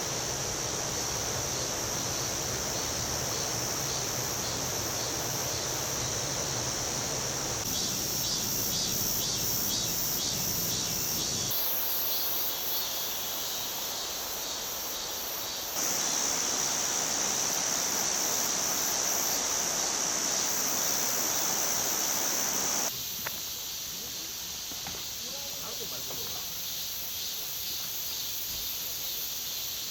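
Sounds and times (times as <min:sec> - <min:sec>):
insects chirring: 0:00.0 - 0:29.9.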